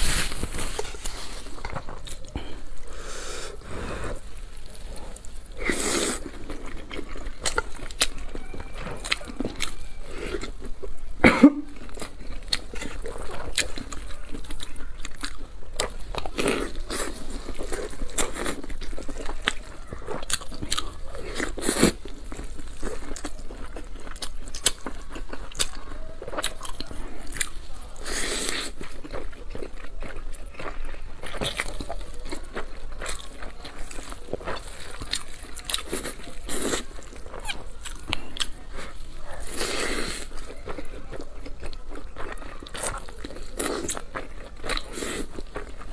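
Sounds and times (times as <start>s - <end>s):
person biting and chewing food: 0.0s - 11.0s, 11.7s - 45.9s.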